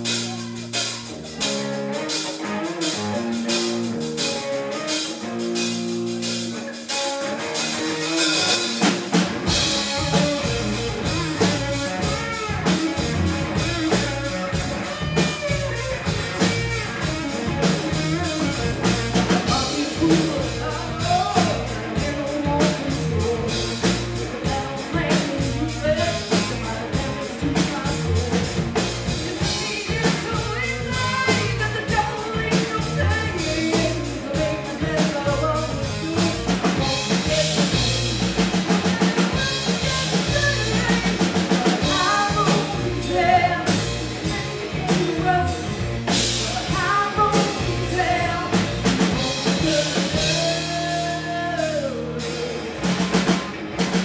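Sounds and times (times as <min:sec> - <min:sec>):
person singing: 0:00.0 - 0:53.9
electric guitar: 0:00.0 - 0:54.0
live rock band playing: 0:00.0 - 0:54.0.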